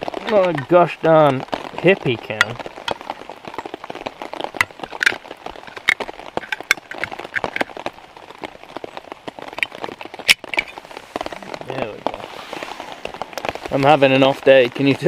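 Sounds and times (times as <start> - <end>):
faint rain patter: 0.0 - 15.0
raindrops tapping on a tarp: 0.0 - 15.0.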